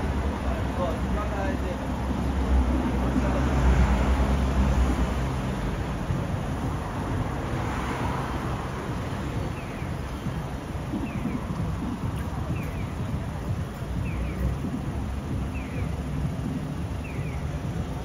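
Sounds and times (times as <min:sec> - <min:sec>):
city street traffic noise: 0:00.0 - 0:18.0
vehicle engine low rumble: 0:00.0 - 0:18.0.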